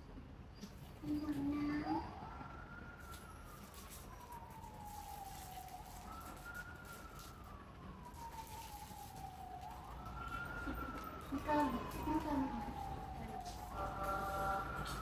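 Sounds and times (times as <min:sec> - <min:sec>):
faint wailing siren: 0:00.0 - 0:15.0.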